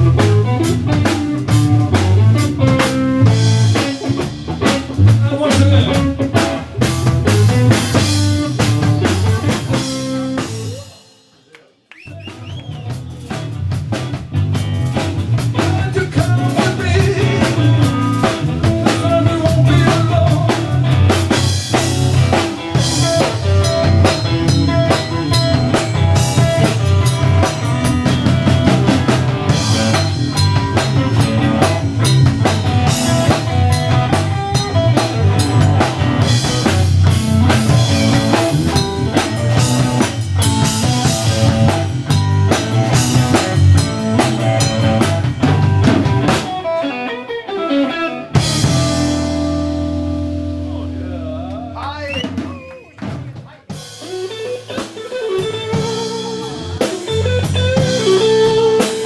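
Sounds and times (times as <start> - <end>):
electric guitar: 0.0 - 11.1, 12.3 - 59.0
drum kit: 0.0 - 59.0.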